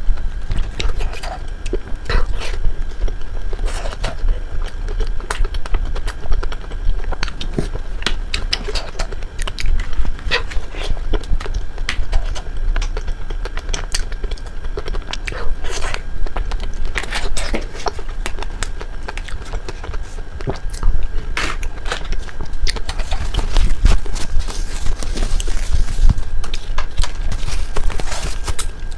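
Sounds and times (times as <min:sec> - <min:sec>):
crunchy chewing and biting: 0:00.1 - 0:28.9.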